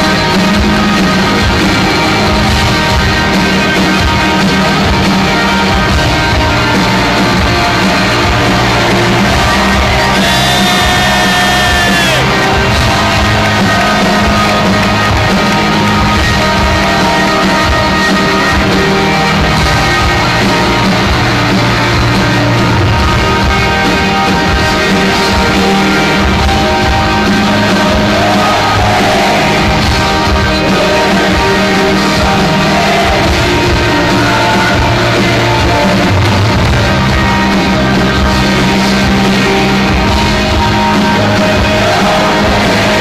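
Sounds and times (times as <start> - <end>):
crowd singing and shouting: 0.0 - 43.0
live rock band playing: 0.0 - 43.0.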